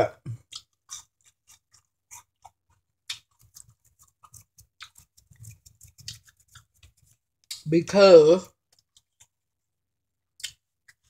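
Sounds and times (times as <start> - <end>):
person chewing crunchy food: 0.1 - 7.7, 8.6 - 9.5, 10.3 - 11.0.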